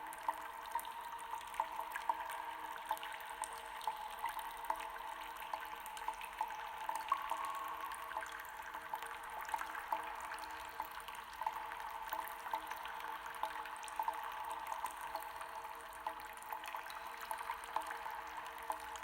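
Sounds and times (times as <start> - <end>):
water dripping in a cave: 0.0 - 19.0.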